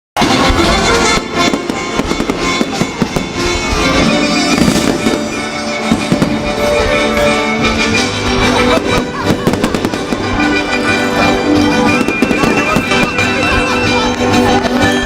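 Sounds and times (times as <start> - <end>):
fireworks crackles and bangs: 0.2 - 15.0
music playing: 0.2 - 15.0.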